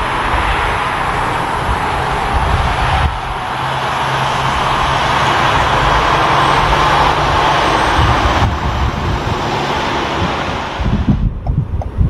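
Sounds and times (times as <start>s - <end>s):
truck engine low hum: 0.0s - 12.0s
truck tyre and road noise: 0.0s - 12.0s.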